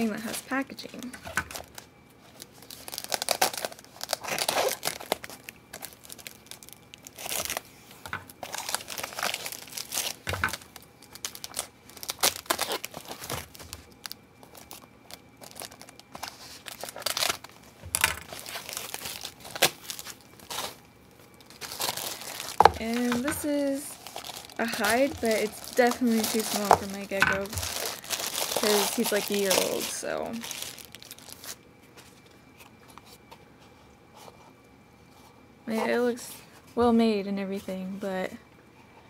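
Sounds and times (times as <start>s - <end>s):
packaging crinkling and tearing: 0.2s - 32.3s.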